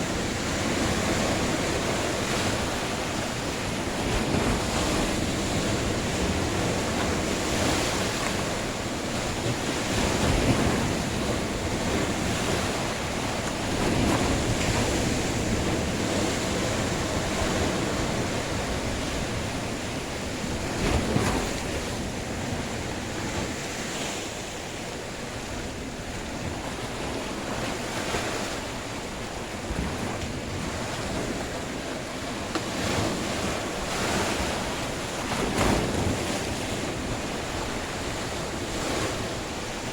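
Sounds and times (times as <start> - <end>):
sea waves washing ashore: 0.0 - 39.9
wind buffeting microphone: 0.0 - 39.9.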